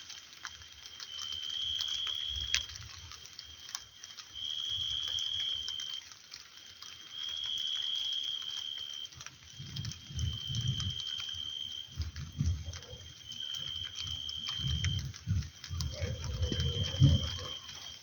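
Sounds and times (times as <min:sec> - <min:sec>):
rain drips and clicks: 0:00.0 - 0:18.0.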